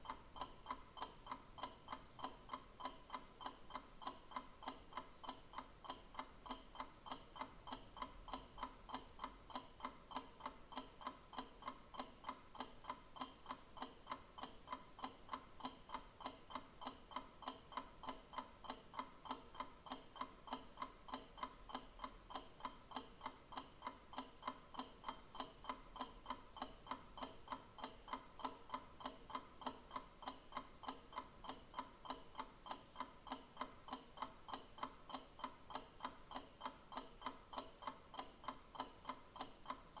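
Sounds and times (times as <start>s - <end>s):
clock ticking: 0.0s - 40.0s.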